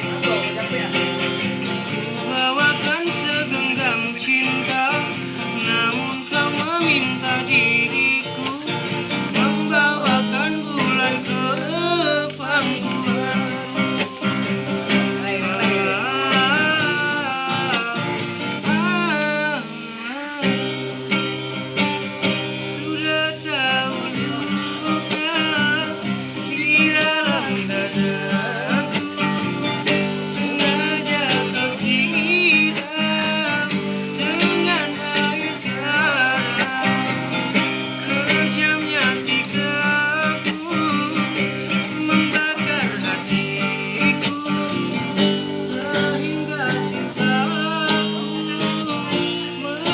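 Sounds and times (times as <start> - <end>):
acoustic guitar: 0.0 - 49.9
person singing with vibrato: 0.0 - 49.9.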